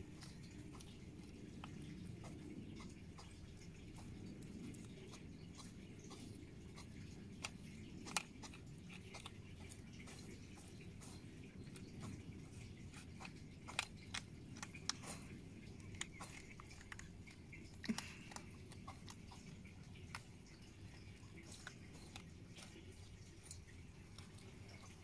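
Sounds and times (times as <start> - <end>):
hedgehogs crunching food: 0.0 - 25.0.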